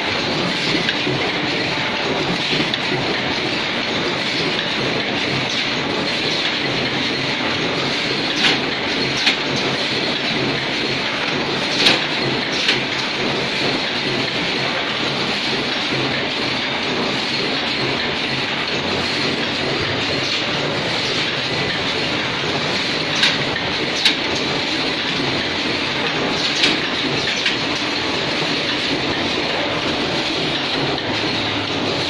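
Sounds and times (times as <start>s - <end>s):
machines clattering: 0.0s - 32.0s
sharp machine clacks: 0.0s - 32.0s.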